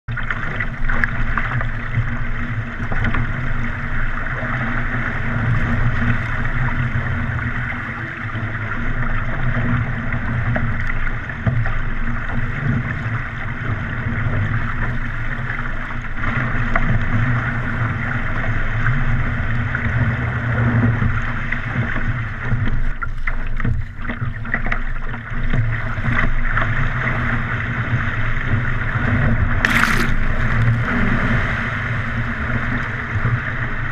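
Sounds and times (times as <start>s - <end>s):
water splashing along hull: 0.1s - 33.9s.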